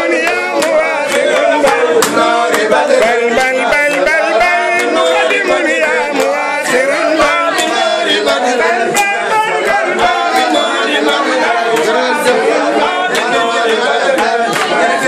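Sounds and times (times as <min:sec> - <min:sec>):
men singing together: 0:00.0 - 0:15.0
rhythmic handclaps: 0:00.0 - 0:15.0.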